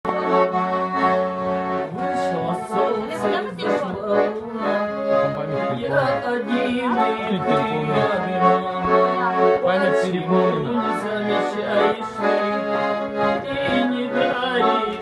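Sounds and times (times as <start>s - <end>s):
accordion playing a tune: 0.0s - 15.0s.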